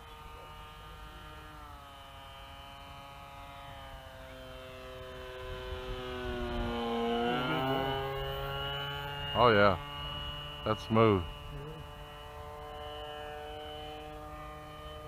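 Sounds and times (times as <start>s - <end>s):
model plane motor droning: 0.0s - 15.0s.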